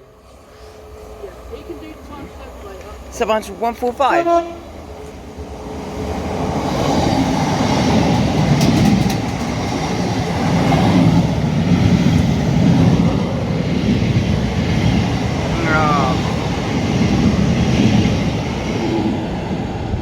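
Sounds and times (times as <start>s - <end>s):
train wheels rumbling on rails: 0.0s - 20.0s
train clatter: 1.2s - 19.4s.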